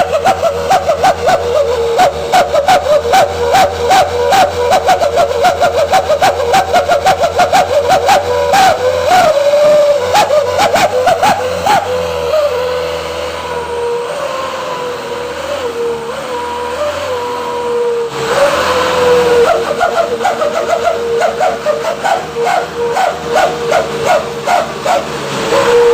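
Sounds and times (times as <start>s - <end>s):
truck exhaust howling with whistle: 0.0s - 25.9s.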